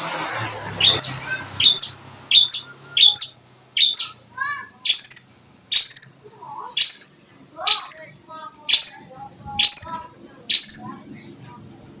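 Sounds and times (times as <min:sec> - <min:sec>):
bird high chirps: 0:00.0 - 0:11.0
bird warbled phrase: 0:00.0 - 0:11.1.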